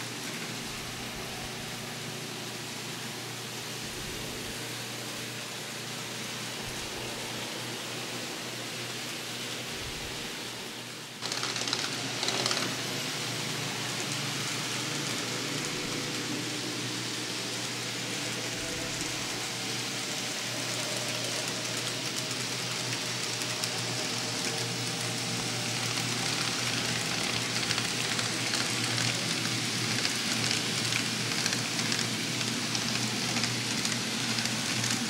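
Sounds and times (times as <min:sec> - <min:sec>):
steady hiss: 0:00.0 - 0:35.0
model train motors whirring: 0:03.8 - 0:35.0.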